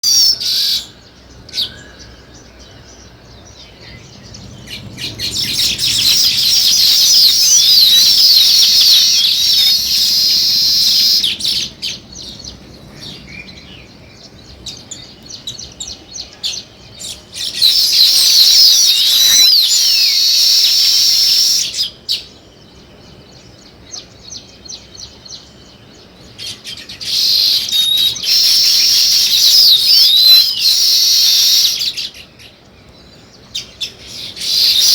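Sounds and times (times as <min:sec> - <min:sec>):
sparrows chirping: 0:00.0 - 0:34.9.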